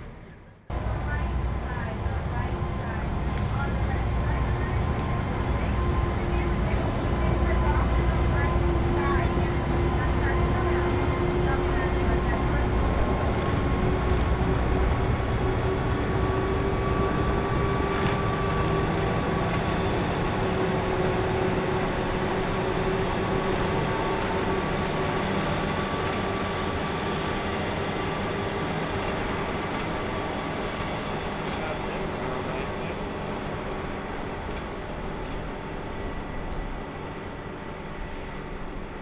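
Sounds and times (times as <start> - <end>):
diesel train running with whine: 0.0 - 39.0.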